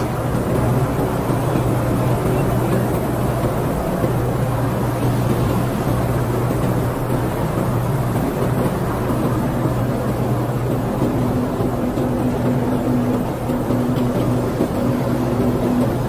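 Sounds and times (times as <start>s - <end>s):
steady motor hum: 0.0s - 16.0s.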